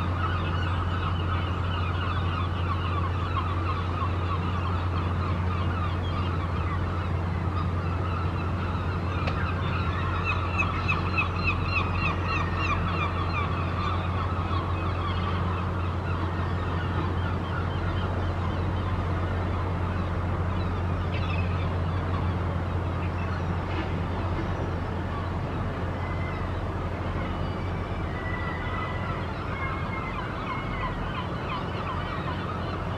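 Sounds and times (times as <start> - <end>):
birds calling: 0.0 - 32.9
low mechanical hum: 0.0 - 32.9.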